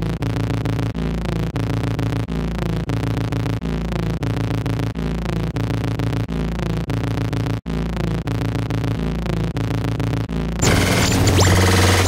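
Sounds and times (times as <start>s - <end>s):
electronic glitch tone: 0.0s - 12.0s.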